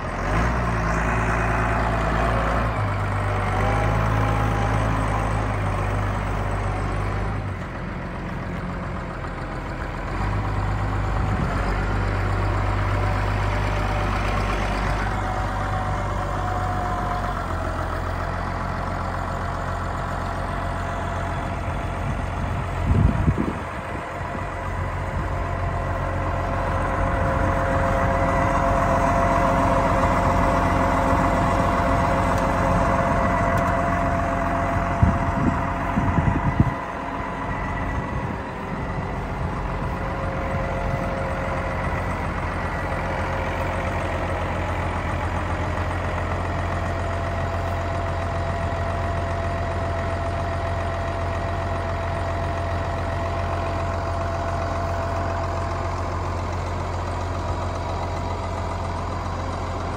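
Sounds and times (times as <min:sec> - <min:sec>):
engine whine: 0:00.0 - 0:59.9
tractor diesel engine running: 0:00.0 - 0:59.9.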